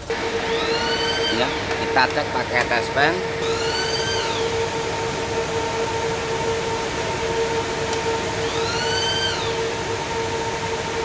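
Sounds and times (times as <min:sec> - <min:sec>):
mechanical hum: 0:00.0 - 0:11.0
siren-like wail: 0:00.0 - 0:11.0.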